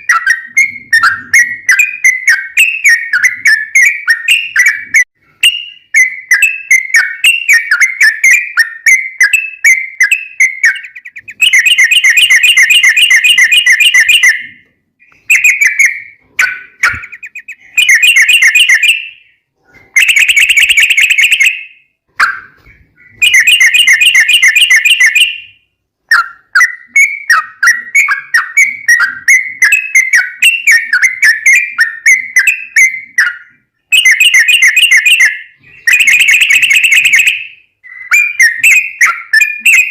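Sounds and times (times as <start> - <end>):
bird chattering and whistling: 0.0 - 39.9.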